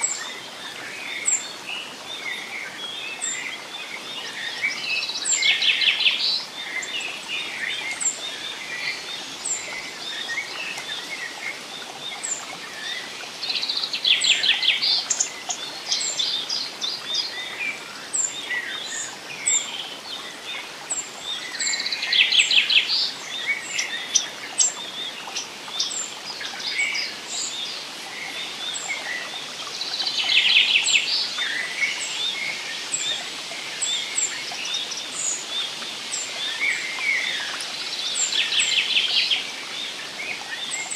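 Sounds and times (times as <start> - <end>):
forest ambience hiss: 0.0 - 40.9
songbirds singing: 0.0 - 40.9.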